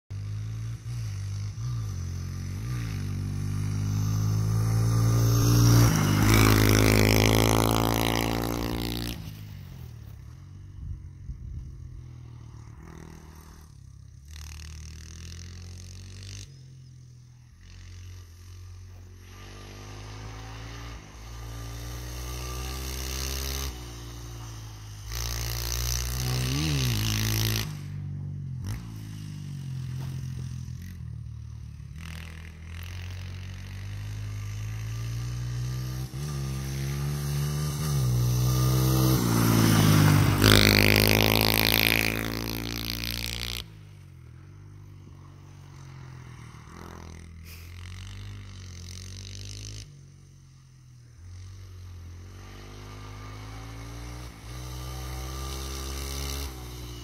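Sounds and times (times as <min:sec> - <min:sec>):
dirt bike engine revving: 0:00.1 - 0:57.0.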